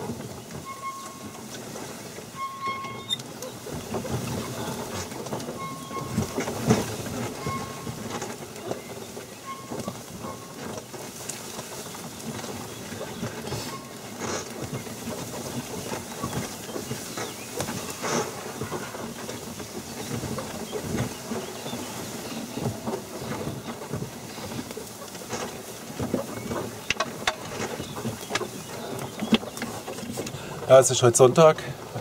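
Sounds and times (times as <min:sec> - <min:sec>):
rattles and knocks: 0:00.0 - 0:32.0
vehicle rumbling over rough ground: 0:00.0 - 0:32.0.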